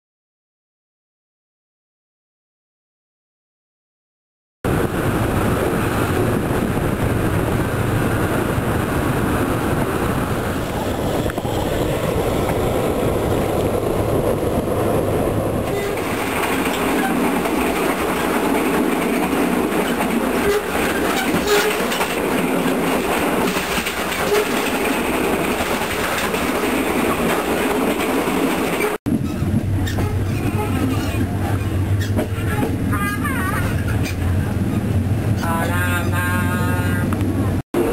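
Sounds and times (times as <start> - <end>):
train wheels running on rails: 4.7 - 37.9.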